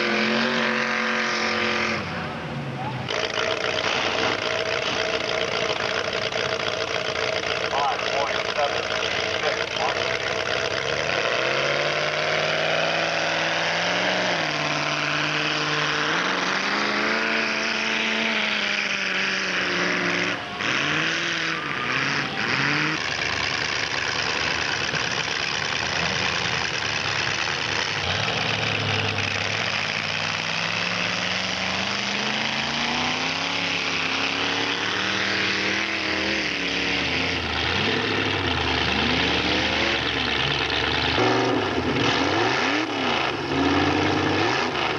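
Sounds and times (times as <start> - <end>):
truck engines revving: 0.0 - 44.9.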